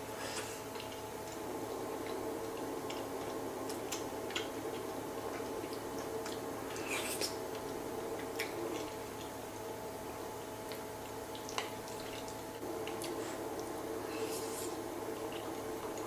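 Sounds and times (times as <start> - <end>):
steady low hum: 0.0 - 16.0
chewing food: 0.2 - 16.0.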